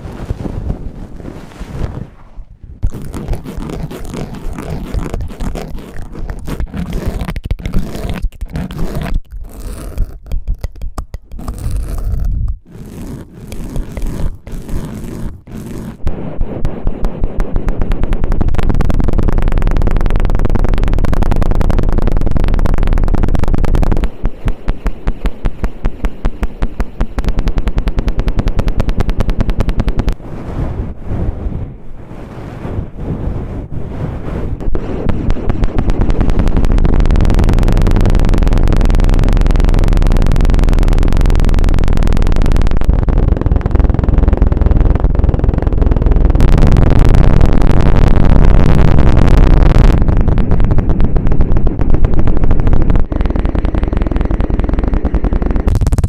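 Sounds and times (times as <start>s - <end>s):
ear scraper scraping microphone: 0.0s - 20.1s, 22.7s - 43.7s, 45.5s - 56.0s.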